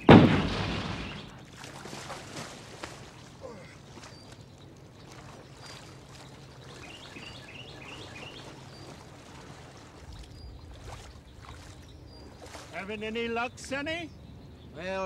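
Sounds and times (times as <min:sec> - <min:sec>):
bird chirping: 0:00.0 - 0:01.6, 0:03.2 - 0:09.0, 0:10.1 - 0:15.0.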